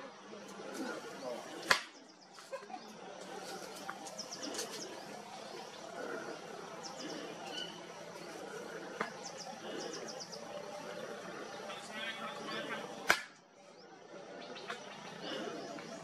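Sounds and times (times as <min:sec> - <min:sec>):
faint outdoor hiss: 0:00.0 - 0:16.0
small birds chirping: 0:00.0 - 0:16.0.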